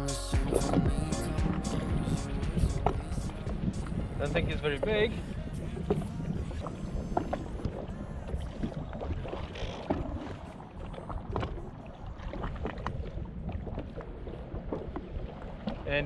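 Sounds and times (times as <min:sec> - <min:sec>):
wind on microphone: 0:00.0 - 0:15.9
water slapping against jet ski: 0:02.4 - 0:16.0.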